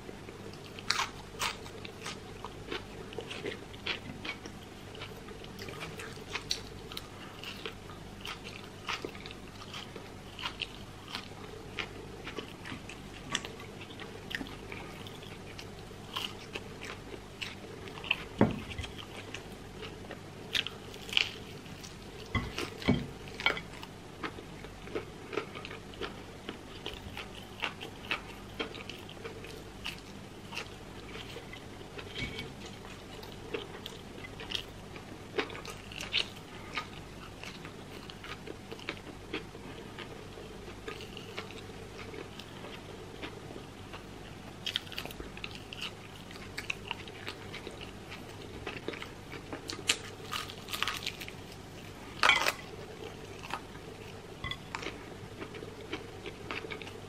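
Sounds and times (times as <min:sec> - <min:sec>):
chewing and crunching fried food: 0:00.0 - 0:57.0.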